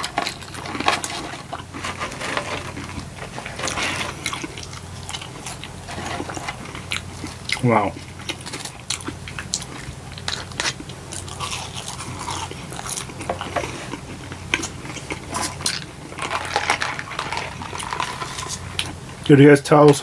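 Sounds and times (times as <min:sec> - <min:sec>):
crunchy chewing of food: 0:00.0 - 0:20.0.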